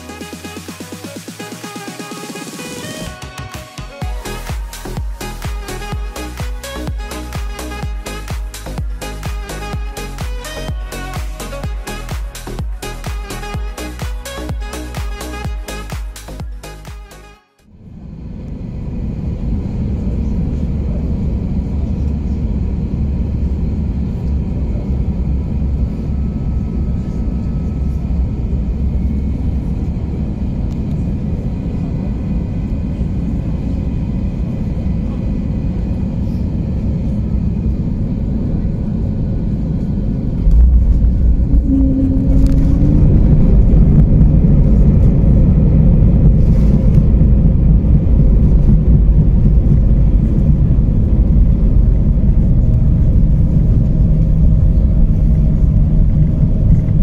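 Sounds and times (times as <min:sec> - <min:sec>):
rising whine: 0:00.0 - 0:57.0
aircraft cabin engine rumble: 0:02.4 - 0:17.1, 0:17.7 - 0:57.0.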